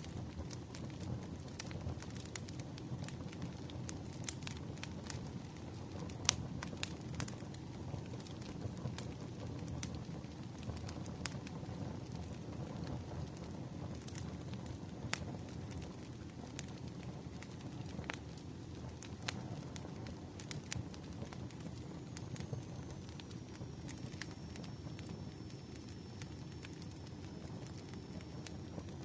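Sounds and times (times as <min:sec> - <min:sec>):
firewood crackling and popping: 0:00.0 - 0:29.0
low rush of flame: 0:00.0 - 0:29.0.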